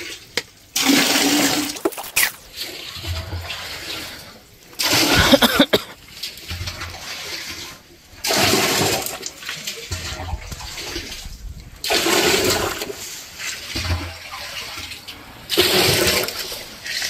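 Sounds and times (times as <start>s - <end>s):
water gushing and splashing: 0.0s - 17.0s
water sloshing: 0.0s - 17.0s.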